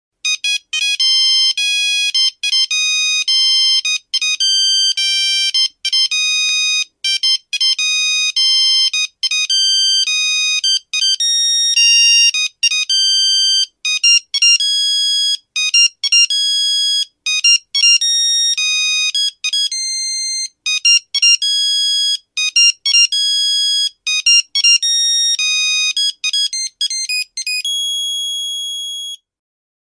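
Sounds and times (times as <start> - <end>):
phone ringtone beeps: 0.2 - 29.2.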